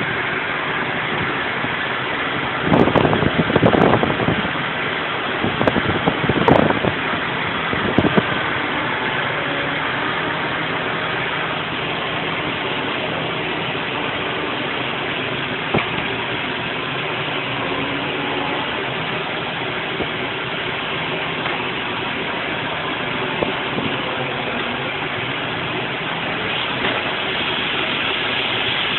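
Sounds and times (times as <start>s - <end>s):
engine running steadily: 0.0s - 28.9s.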